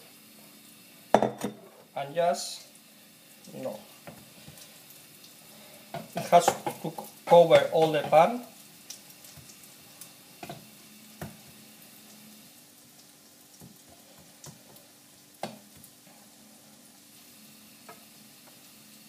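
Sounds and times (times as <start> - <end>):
omelette sizzling in frying pan: 0.0 - 19.0.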